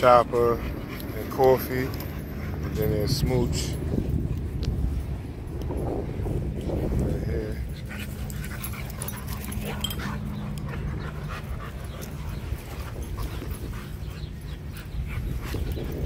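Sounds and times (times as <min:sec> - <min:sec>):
dogs scuffling on grass: 0:00.0 - 0:16.0
steady low rumble: 0:00.0 - 0:16.0.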